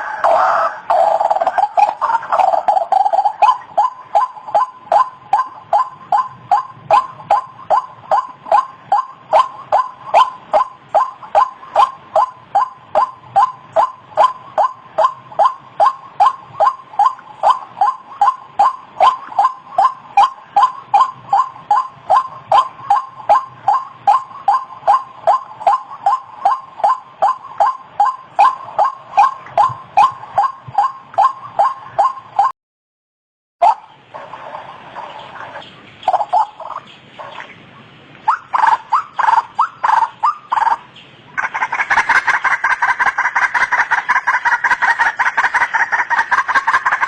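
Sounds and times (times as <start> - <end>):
waterhen calling: 0.0 - 32.5, 33.6 - 47.0.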